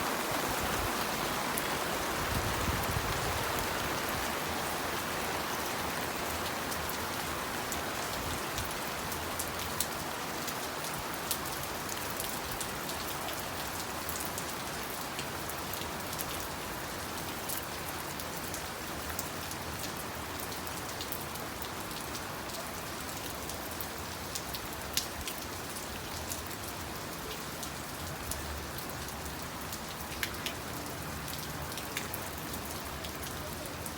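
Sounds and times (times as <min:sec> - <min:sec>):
steady rain hiss: 0:00.0 - 0:33.9.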